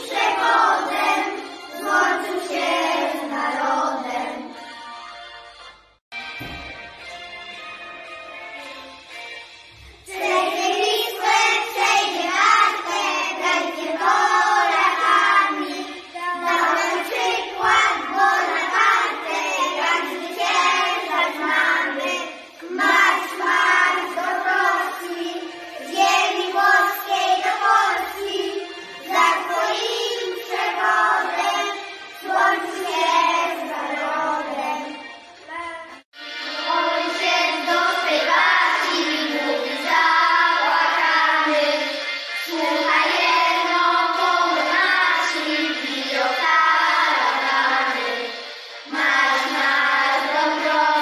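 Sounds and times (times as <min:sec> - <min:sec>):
children singing in unison: 0:00.0 - 0:05.0, 0:08.6 - 0:51.0.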